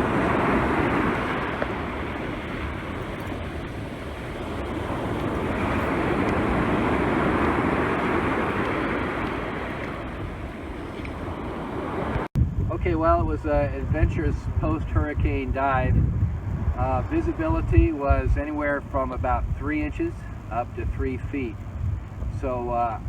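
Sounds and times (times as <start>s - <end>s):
surf rushing in: 0.0s - 19.4s
wind buffeting microphone: 0.0s - 23.0s.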